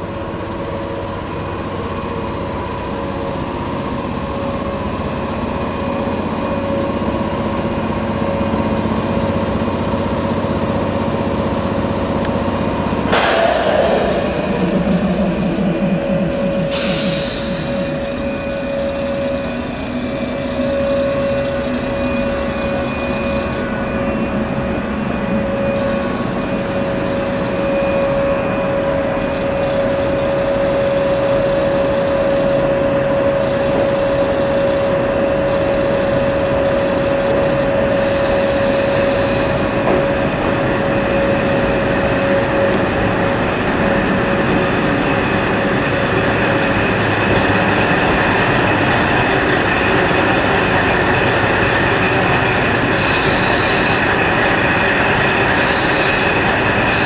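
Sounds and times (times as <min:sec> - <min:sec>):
electric train pulling out: 0:00.6 - 0:57.0.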